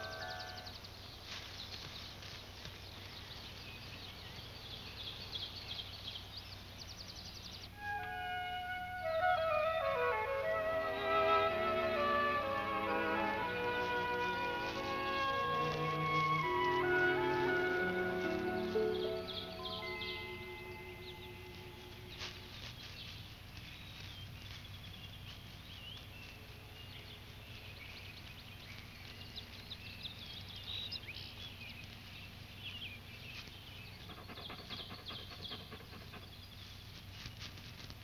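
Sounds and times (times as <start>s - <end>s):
low steady hum: 0.0s - 38.0s
small birds chirping: 0.0s - 38.0s.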